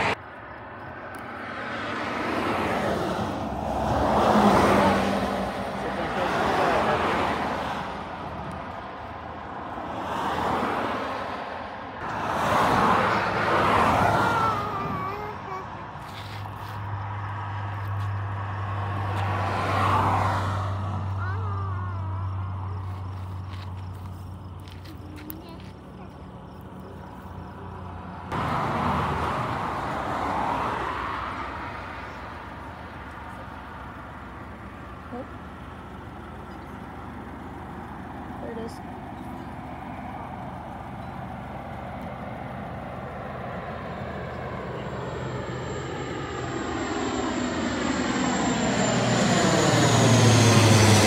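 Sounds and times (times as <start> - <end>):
cars passing on road: 0.0 - 51.0.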